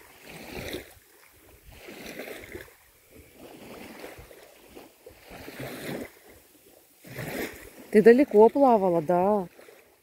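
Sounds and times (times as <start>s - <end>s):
water sloshing and lapping: 0.0s - 10.0s.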